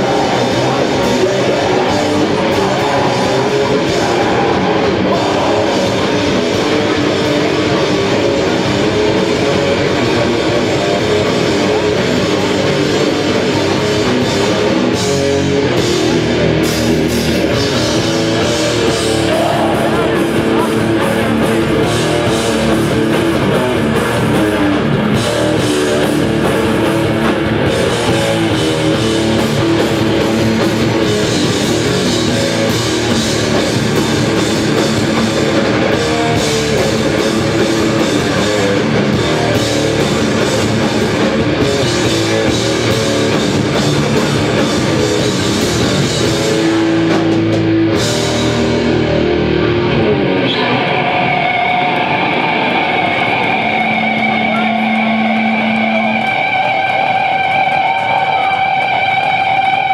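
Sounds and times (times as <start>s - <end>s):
live heavy metal band: 0.0s - 59.9s.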